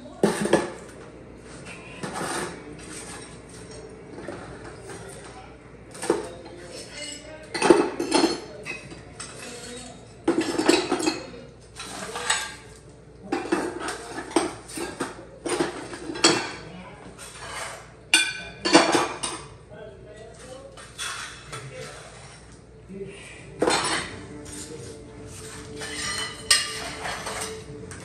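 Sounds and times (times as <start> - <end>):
dishes and cutlery clattering: 0.2 - 1.0, 1.9 - 19.6, 20.2 - 22.6, 23.6 - 28.0.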